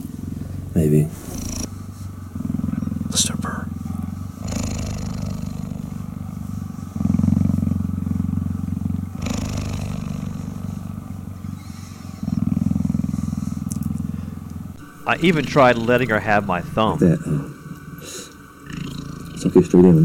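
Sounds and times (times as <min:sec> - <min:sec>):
cheetah purring: 0:00.0 - 0:20.0.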